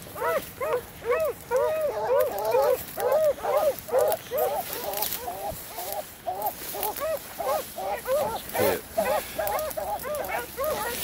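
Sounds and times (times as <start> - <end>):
animal yelping calls: 0.1 - 11.0.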